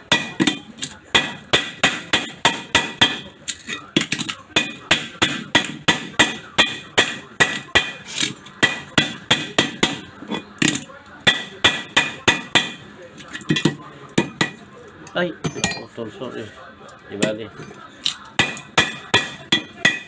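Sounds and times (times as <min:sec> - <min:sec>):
hammer chipping cement with metallic ring: 0:00.0 - 0:14.7, 0:17.2 - 0:20.0.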